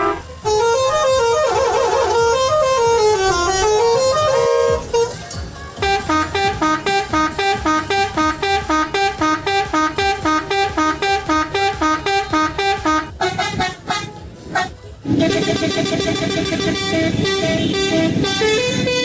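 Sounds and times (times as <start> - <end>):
musical horn two-note tune: 0.0 - 5.2, 5.8 - 19.0.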